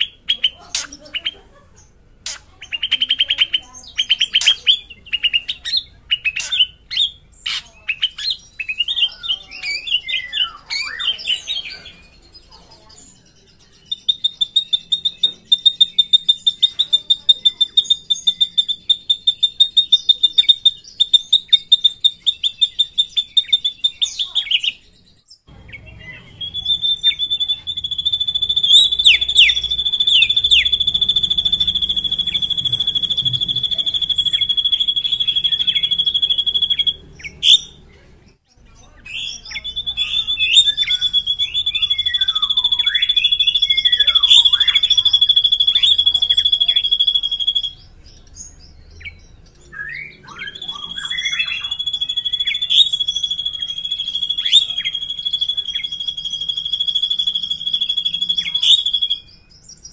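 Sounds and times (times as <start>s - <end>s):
bird singing a rolling trill: 0.0s - 59.9s.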